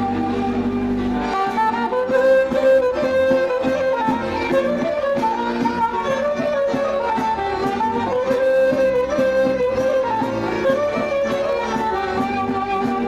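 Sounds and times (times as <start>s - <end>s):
accordion: 0.0s - 13.0s
clarinet: 0.0s - 13.0s
double bass: 0.0s - 13.0s
violins: 0.0s - 13.0s.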